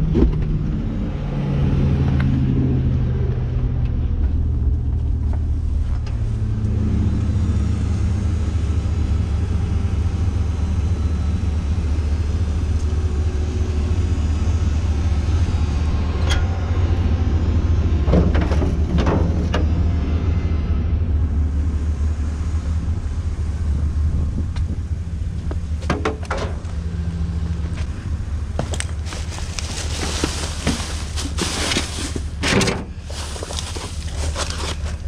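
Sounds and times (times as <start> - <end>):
truck engine rumbling: 0.0 - 35.0.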